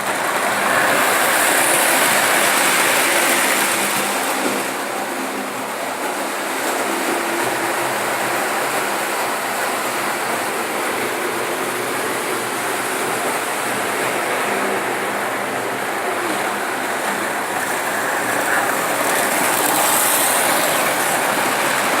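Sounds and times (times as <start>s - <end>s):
model train whirring: 0.0s - 22.0s.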